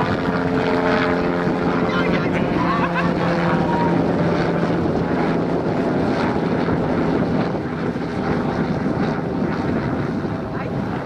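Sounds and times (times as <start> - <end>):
helicopter flying past: 0.0 - 11.0
steady low hum: 0.0 - 11.0
wind noise on microphone: 0.0 - 11.0.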